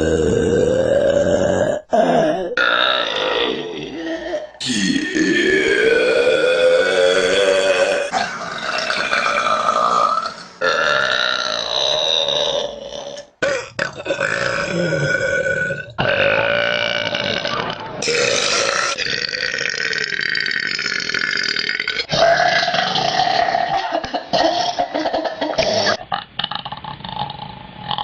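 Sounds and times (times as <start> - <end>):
woman burping: 0.0 - 28.0.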